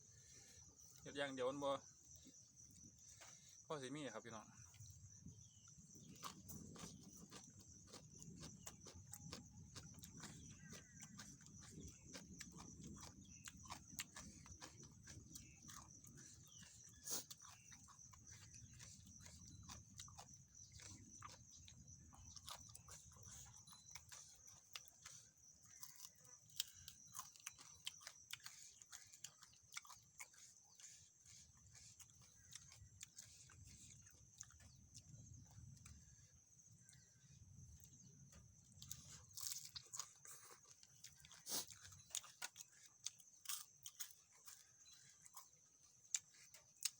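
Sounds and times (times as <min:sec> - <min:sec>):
person chewing food: 0:02.0 - 0:03.7, 0:04.6 - 0:46.9.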